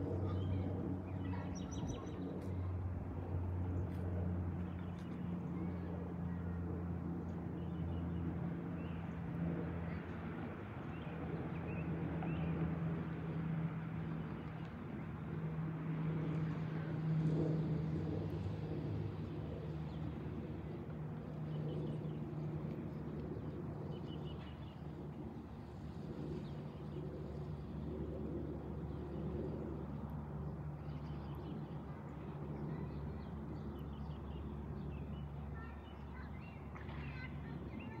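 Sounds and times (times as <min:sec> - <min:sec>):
airplane low drone: 0:00.0 - 0:38.0.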